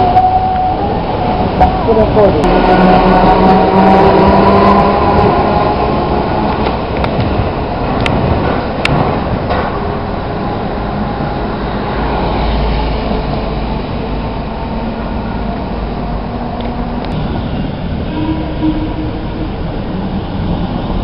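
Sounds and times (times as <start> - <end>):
streetcar rumbling on rails: 0.0 - 21.0.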